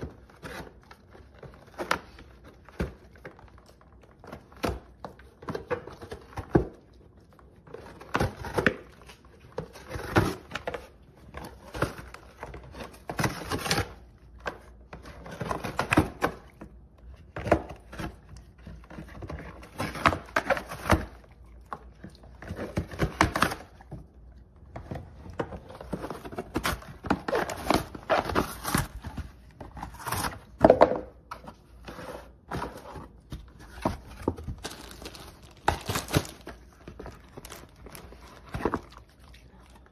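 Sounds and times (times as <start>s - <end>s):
dog tearing cardboard: 0.0s - 24.0s, 24.6s - 30.6s, 31.5s - 39.9s.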